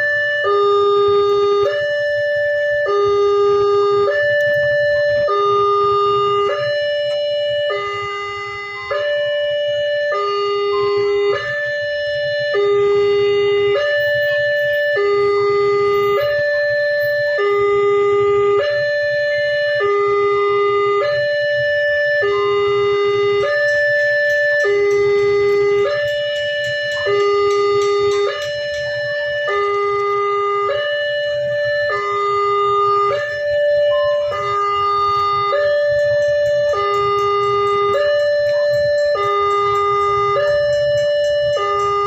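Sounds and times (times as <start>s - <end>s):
two-tone crossing alarm: 0.0s - 42.0s.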